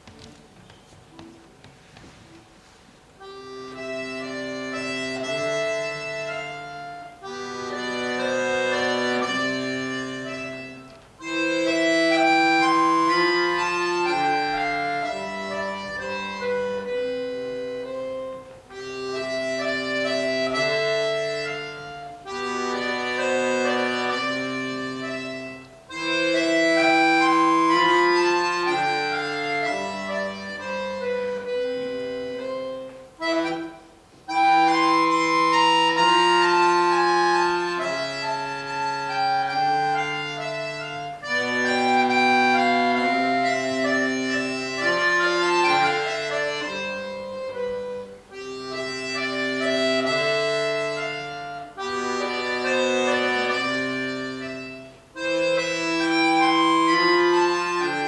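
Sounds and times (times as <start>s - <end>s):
accordion playing a melody: 0.0s - 58.0s.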